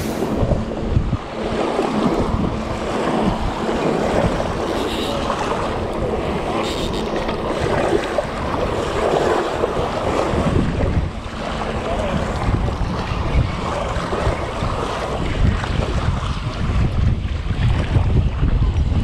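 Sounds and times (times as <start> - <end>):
small waves washing on shore: 0.0 - 19.0
wind buffeting microphone: 0.0 - 19.0.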